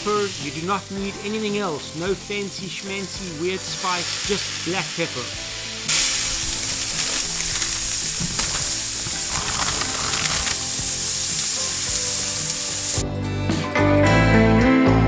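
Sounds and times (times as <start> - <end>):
burger patties sizzling on griddle: 0.0 - 13.0
guitar music: 0.0 - 15.0.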